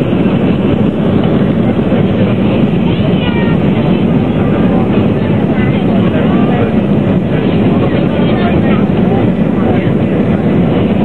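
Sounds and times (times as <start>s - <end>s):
faint voices: 0.0s - 11.0s
jet engine cabin noise: 0.0s - 11.0s.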